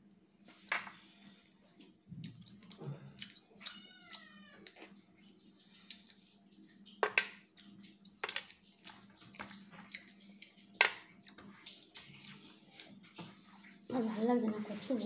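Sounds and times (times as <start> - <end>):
wet chewing and mouth noises: 1.7 - 15.0.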